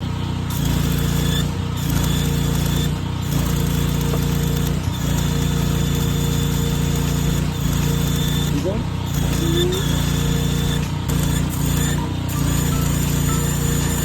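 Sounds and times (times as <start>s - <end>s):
welding arc buzzing and hissing: 0.3s - 14.0s.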